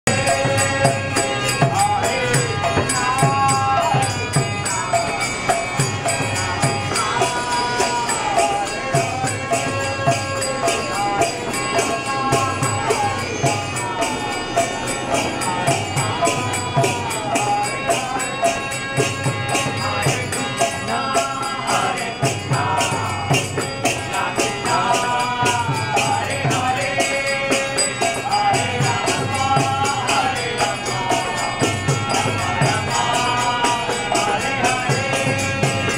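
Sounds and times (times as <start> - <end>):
harmonium drone: 0.1 - 35.9
man singing a devotional chant: 0.1 - 35.9
shakers and hand percussion: 0.1 - 35.9.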